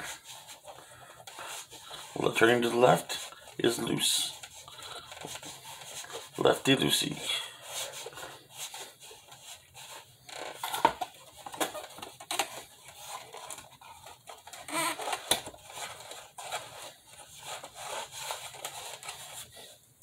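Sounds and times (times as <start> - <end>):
cardboard packaging rubbing and scraping: 0.0 - 19.9.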